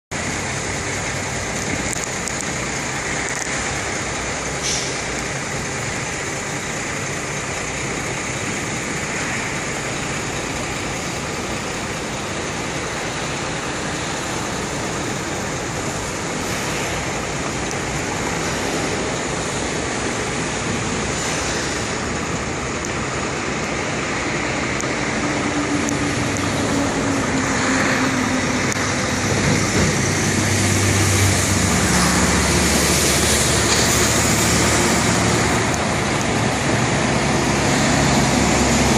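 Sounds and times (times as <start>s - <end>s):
engine hum: 0.1s - 38.9s
road traffic passing: 0.1s - 38.9s
heavy truck driving past: 2.6s - 38.9s.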